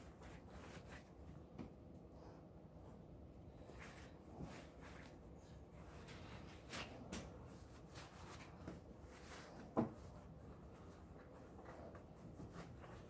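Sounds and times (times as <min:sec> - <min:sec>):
cloth rustling: 0:00.0 - 0:01.5, 0:03.6 - 0:13.0.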